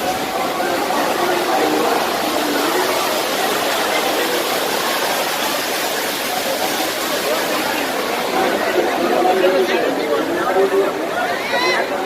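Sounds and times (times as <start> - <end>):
heavy rain hissing: 0.0 - 11.2.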